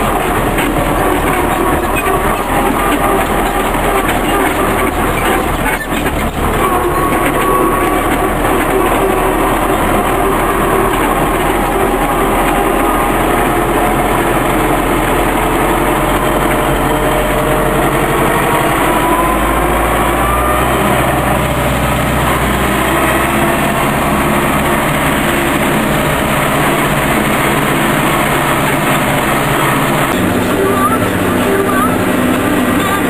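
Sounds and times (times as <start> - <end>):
cab rattling: 0.0 - 33.0
tractor diesel engine running: 0.0 - 33.0.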